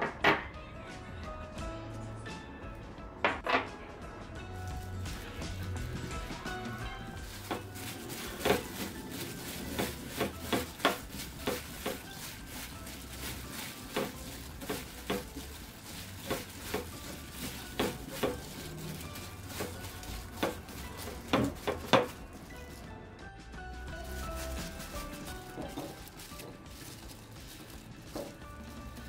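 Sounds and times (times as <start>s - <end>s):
plastic glove rustling: 4.5s - 29.0s.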